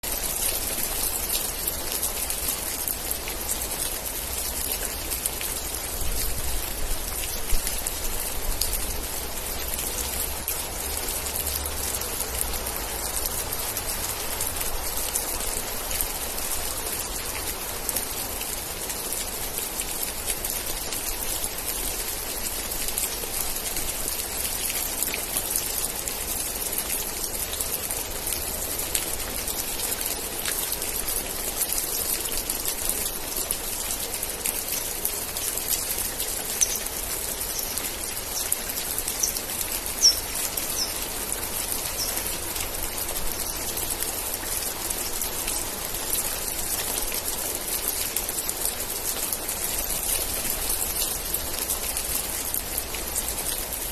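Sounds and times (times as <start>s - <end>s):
rain patter: 0.0s - 53.9s.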